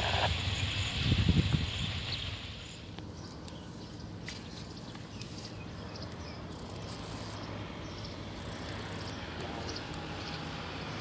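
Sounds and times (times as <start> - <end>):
distant diesel train engine hum: 0.0 - 11.0.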